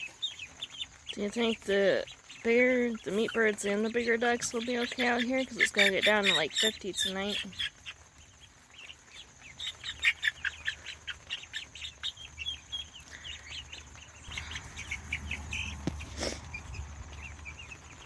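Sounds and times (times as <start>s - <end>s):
chicks and ducklings peeping: 0.0s - 18.0s.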